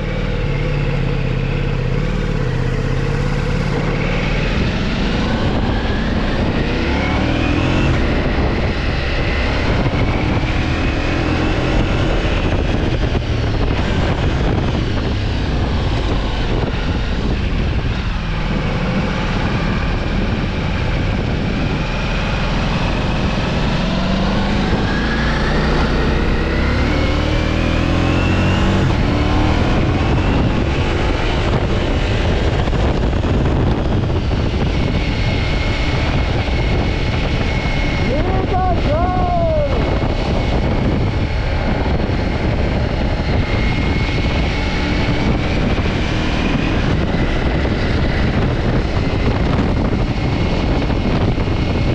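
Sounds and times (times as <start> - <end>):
motorcycle engine accelerating: 0.0 - 51.9
wind on microphone: 0.0 - 51.9.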